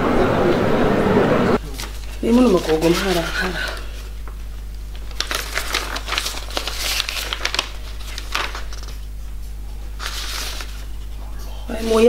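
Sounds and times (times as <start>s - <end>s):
steady low hum: 0.0s - 12.0s
paper rustling and crinkling: 1.6s - 12.0s.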